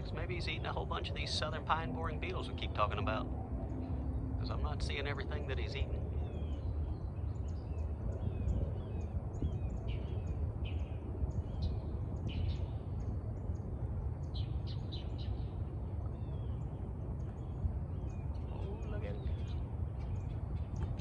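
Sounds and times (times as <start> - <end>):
small birds calling: 0.0 - 21.0
steady low rumble: 0.0 - 21.0.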